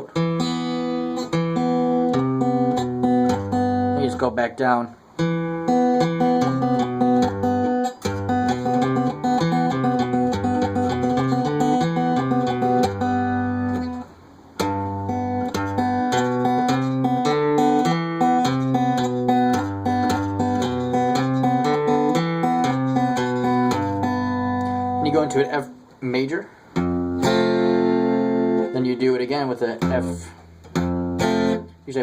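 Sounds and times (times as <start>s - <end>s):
fingerpicked acoustic guitar: 0.0s - 31.9s.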